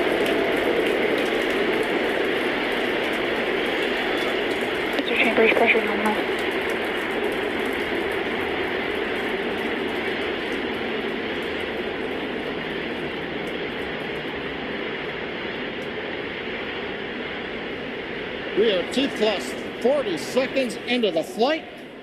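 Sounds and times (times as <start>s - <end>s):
rocket engines roaring: 0.0s - 22.0s.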